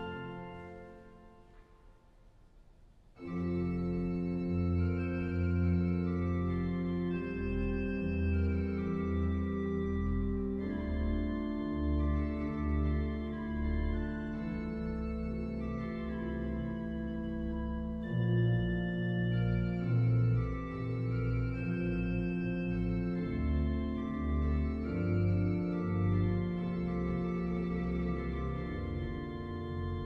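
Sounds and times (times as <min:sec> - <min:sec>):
pipe organ playing chords: 0:00.0 - 0:01.9, 0:03.2 - 0:30.0.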